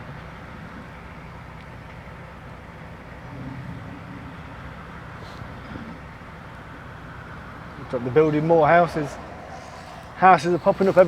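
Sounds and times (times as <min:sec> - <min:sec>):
lorry diesel engine drone: 0:00.0 - 0:11.0
road noise: 0:00.0 - 0:11.0.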